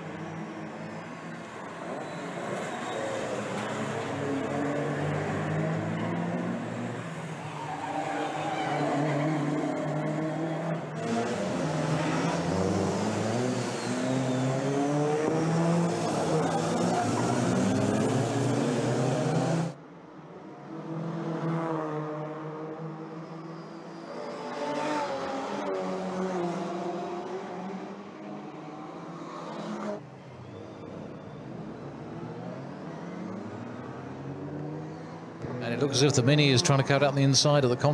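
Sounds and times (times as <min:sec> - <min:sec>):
racing car engines accelerating: 0:00.0 - 0:37.9.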